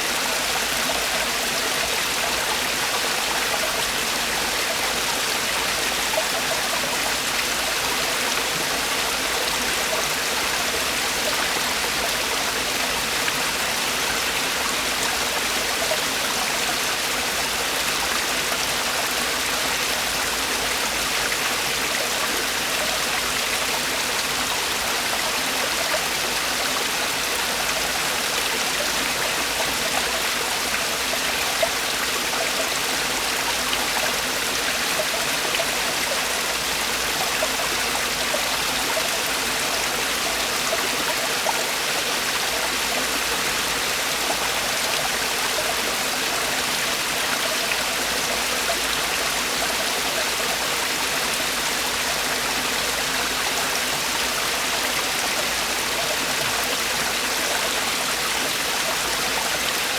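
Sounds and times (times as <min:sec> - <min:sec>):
stream water tumbling over rocks: 0:00.0 - 0:59.9.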